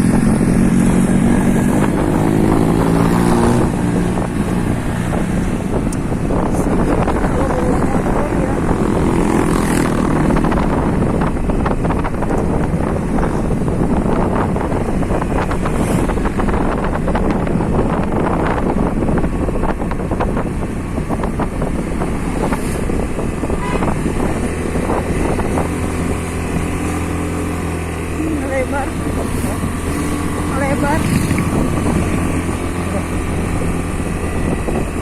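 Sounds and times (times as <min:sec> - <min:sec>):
motorcycle engine humming: 0:00.0 - 0:35.0
wind buffeting microphone: 0:00.0 - 0:35.0.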